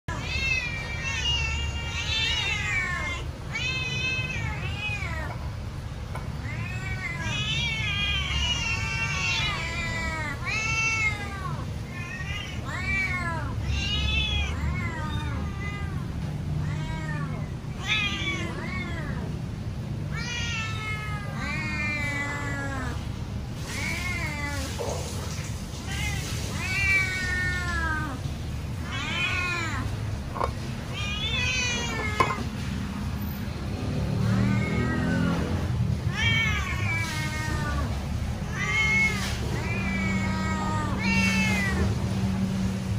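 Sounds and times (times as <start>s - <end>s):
cat meowing loudly: 0.1s - 5.4s, 6.4s - 19.4s, 20.1s - 23.0s, 23.6s - 32.6s, 34.1s - 42.0s.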